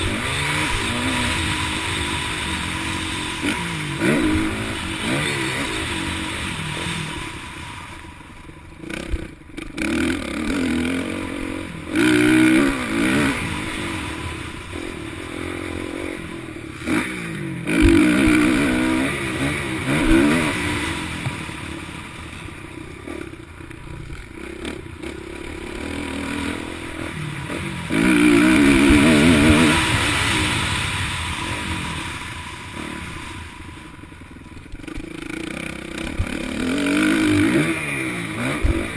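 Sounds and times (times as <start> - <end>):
dirt bikes racing past: 0.0 - 38.9.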